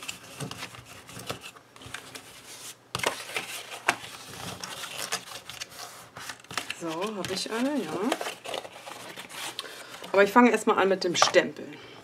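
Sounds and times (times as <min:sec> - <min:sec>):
cardboard rustling and scraping: 0:00.0 - 0:10.3.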